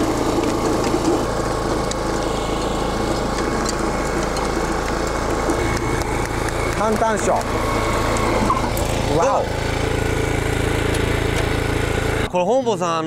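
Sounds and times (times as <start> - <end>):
tiller engine running under load: 0.0 - 13.0.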